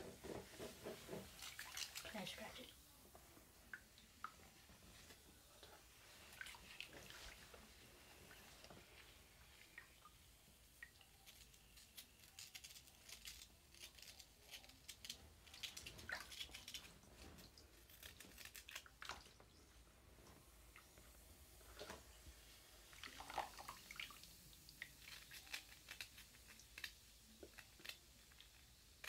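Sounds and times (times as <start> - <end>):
bath bomb crackling in wet hands: 0.5 - 19.6, 20.5 - 29.0.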